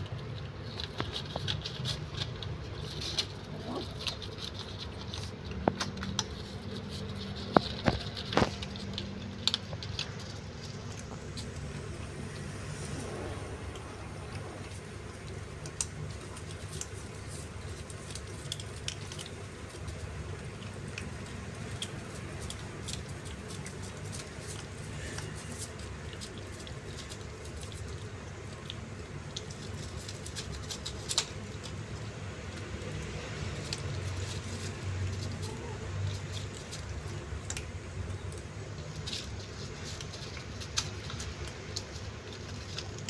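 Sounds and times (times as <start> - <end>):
kittens crunching dry kibble: 0.0 - 43.0
low background hum: 0.0 - 43.0.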